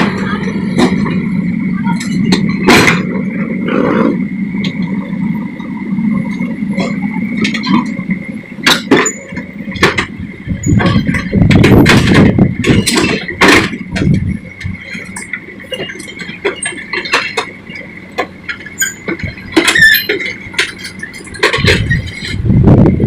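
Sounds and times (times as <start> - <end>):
metallic clanks and knocks: 0.0 - 3.4, 4.6 - 22.4
diesel engine running under load: 0.0 - 23.0.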